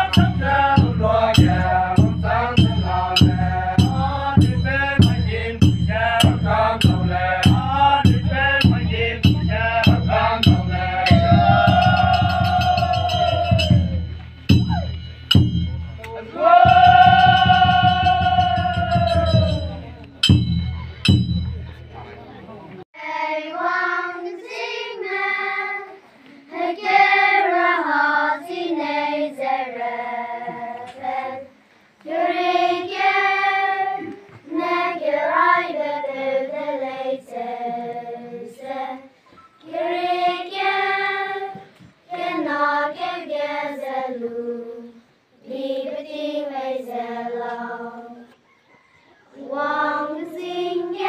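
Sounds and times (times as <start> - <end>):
children singing: 0.0 - 14.0, 16.2 - 19.8, 23.0 - 48.4, 49.3 - 51.0.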